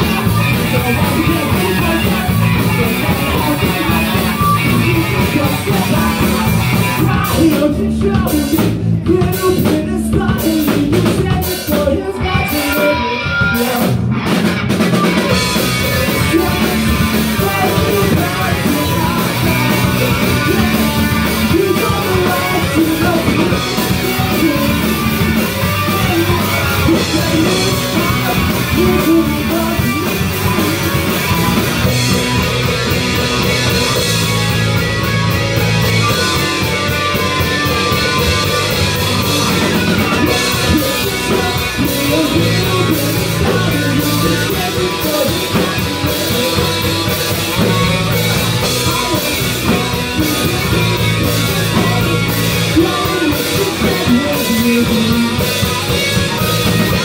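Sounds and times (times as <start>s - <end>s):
person singing: 0.0s - 14.0s, 14.9s - 32.4s, 35.8s - 57.0s
rock band playing live: 0.0s - 57.0s.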